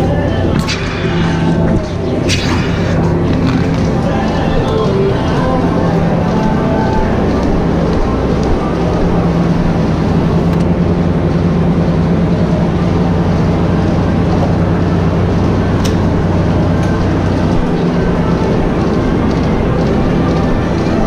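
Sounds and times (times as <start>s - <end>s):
machinery humming: 0.0s - 21.0s.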